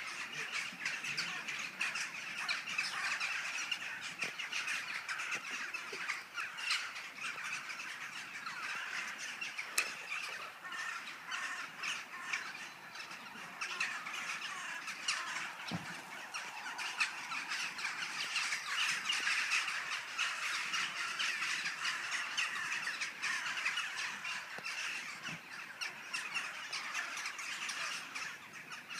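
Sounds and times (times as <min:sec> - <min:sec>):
flock of rooks cawing: 0:00.0 - 0:28.9.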